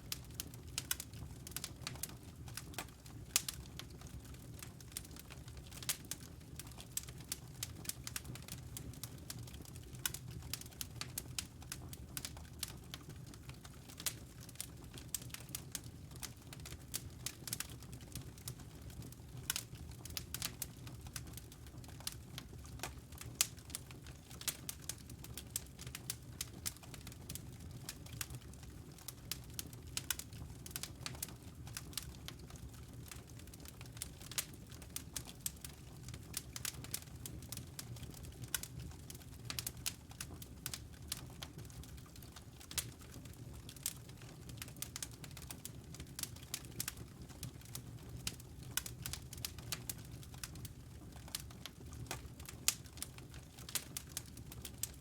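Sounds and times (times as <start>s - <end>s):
logs crackling in fireplace: 0.0s - 55.0s.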